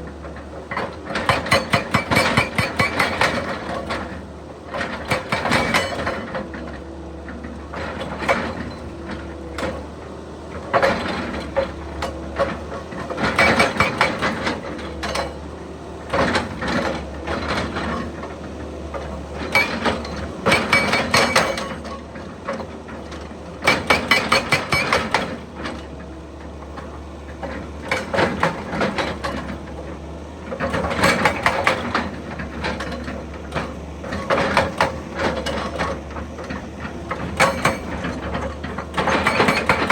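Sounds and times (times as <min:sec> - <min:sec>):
excavator engine running: 0:00.0 - 0:39.9
hydraulic breaker hammering rock: 0:00.1 - 0:06.7, 0:10.6 - 0:15.5, 0:18.9 - 0:39.9.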